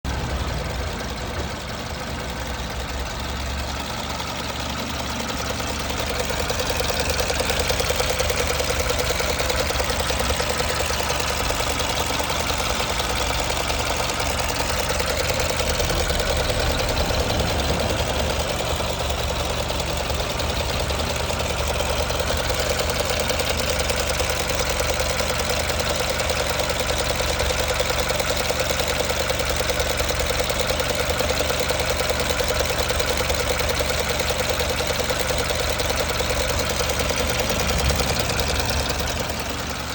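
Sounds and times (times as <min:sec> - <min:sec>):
car engine idling: 0:00.0 - 0:39.9
rhythmic engine knocking: 0:00.0 - 0:39.9.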